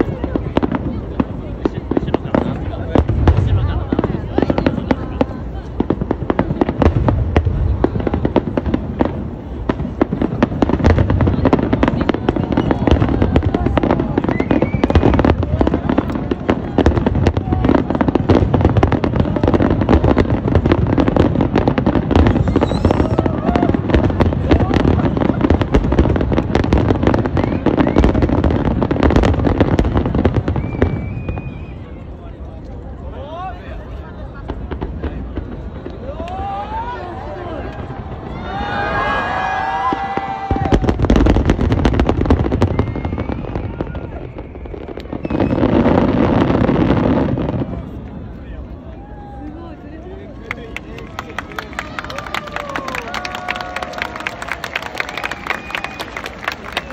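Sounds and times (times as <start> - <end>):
fireworks bursting and crackling: 0.0 - 56.9.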